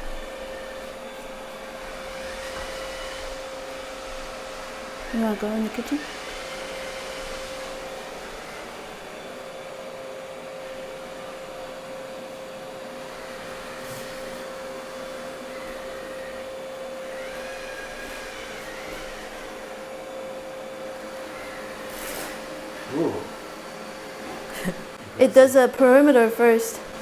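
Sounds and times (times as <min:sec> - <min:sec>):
robot vacuum running: 0:00.0 - 0:27.0.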